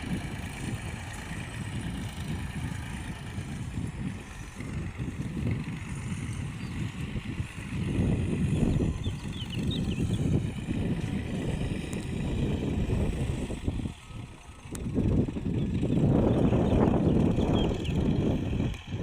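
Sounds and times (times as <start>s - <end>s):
tractor diesel engine running: 0.0s - 19.0s
wind buffeting microphone: 0.0s - 19.0s.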